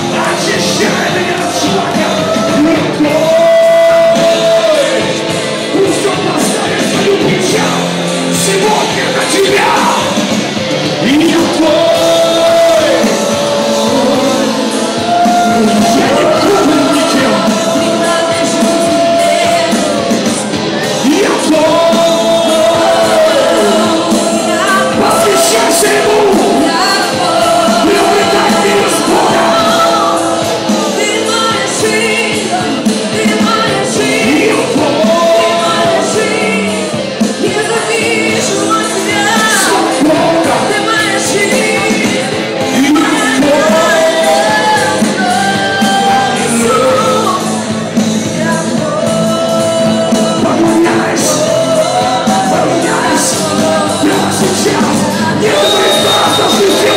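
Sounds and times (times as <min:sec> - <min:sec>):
congregation singing and shouting: 0:00.0 - 0:56.9
drums: 0:00.0 - 0:56.9
electric guitar: 0:00.0 - 0:56.9
woman singing into microphone: 0:11.1 - 0:56.9.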